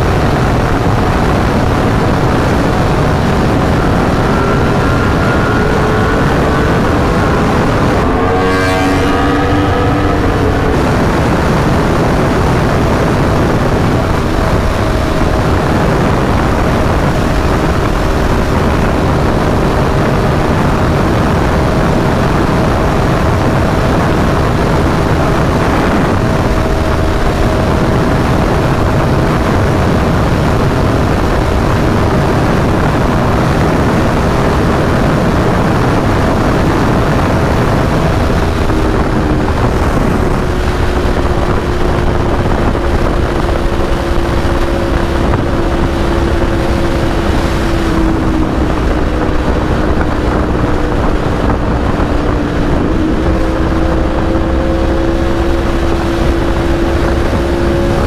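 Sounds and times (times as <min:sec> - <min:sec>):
motorcycle engine at high speed: 0:00.0 - 0:58.0
wind rush: 0:00.0 - 0:58.0.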